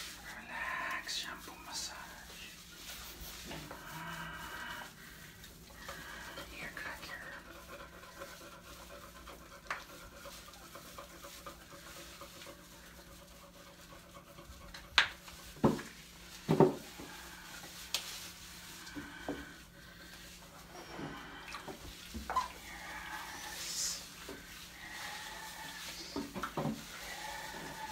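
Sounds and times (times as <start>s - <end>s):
wet rubbing and sloshing: 0.0s - 27.9s.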